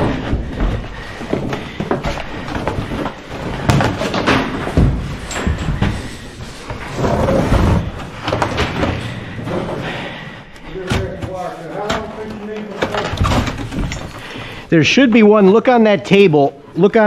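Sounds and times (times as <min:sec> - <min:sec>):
irregular knocks and thumps: 0:00.0 - 0:09.9, 0:10.8 - 0:14.7.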